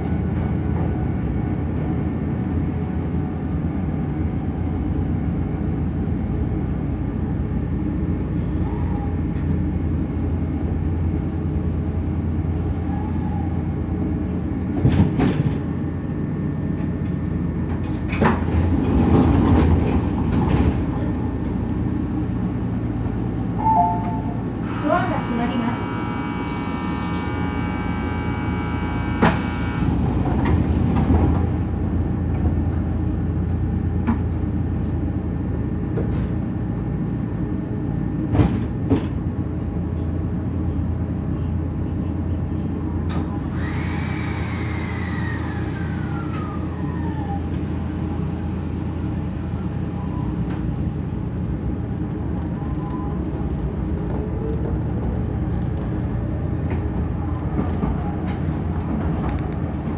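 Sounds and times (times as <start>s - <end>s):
train hum: 0.0s - 59.9s.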